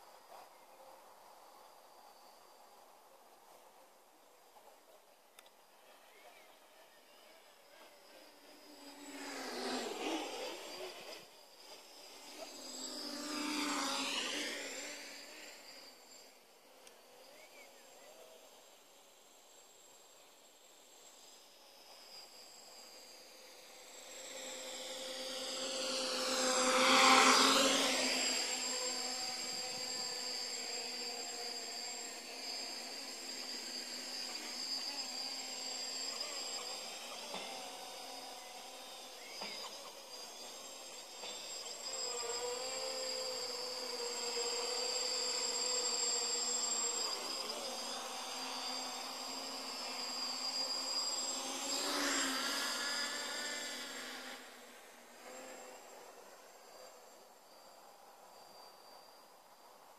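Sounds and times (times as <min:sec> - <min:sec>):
drone propellers buzzing: 0:06.1 - 0:59.9.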